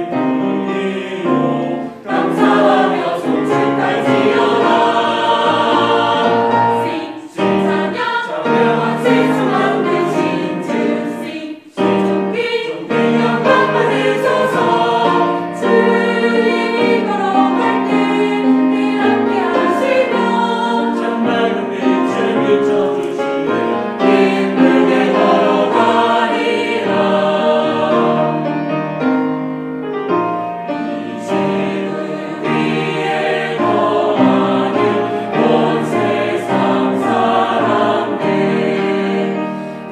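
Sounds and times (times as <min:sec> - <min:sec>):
choir singing a hymn: 0:00.0 - 0:29.6, 0:30.4 - 0:39.9
piano: 0:00.0 - 0:39.9
strings: 0:00.0 - 0:39.9.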